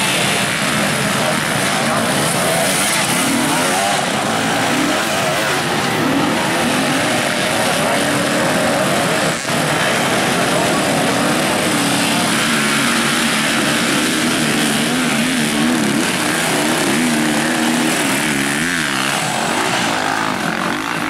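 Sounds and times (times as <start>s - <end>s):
dirtbike engines revving: 0.0s - 21.0s.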